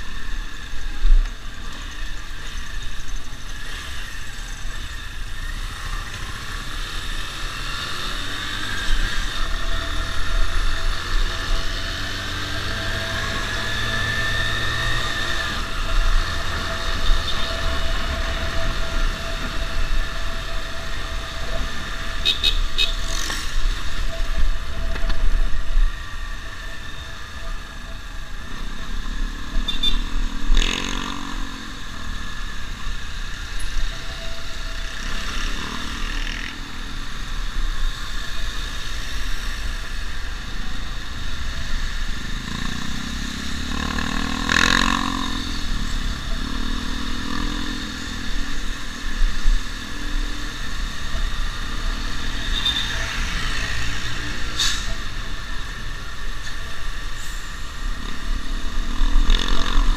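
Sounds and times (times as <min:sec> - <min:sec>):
passing traffic: 0:00.0 - 0:59.9.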